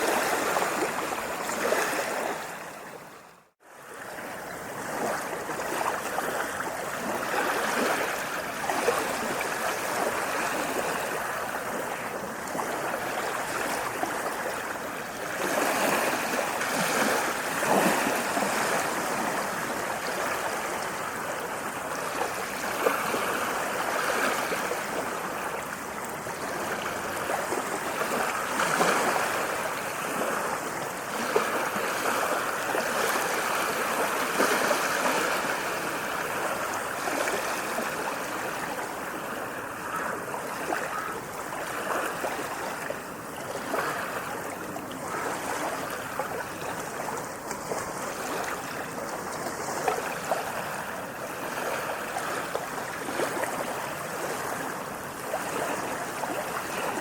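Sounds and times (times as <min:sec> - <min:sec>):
small waves washing in: 0:00.0 - 0:57.0.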